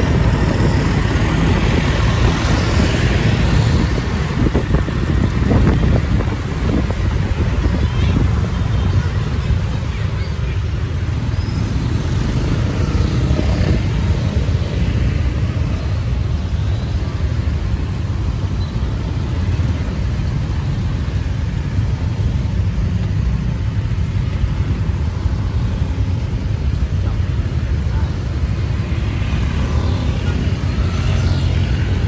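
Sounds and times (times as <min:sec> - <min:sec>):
low rumble of road traffic: 0:00.0 - 0:32.0.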